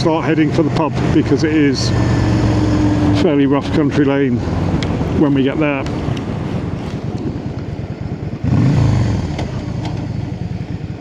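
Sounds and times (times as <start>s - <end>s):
motorcycle engine revving: 0.0s - 11.0s
wind and road noise: 0.0s - 11.0s.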